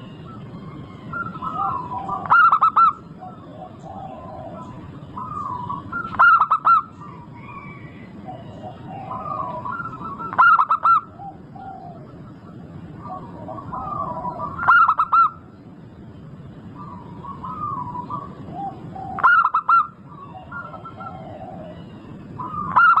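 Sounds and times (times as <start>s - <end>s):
dove cooing: 0.0s - 15.4s, 16.8s - 23.0s
soft warbling bird calls: 0.0s - 23.0s.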